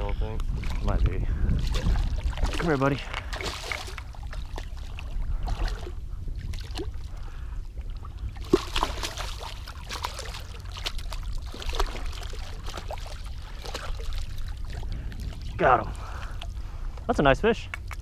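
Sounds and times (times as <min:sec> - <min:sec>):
steady low rumble: 0:00.0 - 0:18.0
water splashing beside boat: 0:00.6 - 0:17.1.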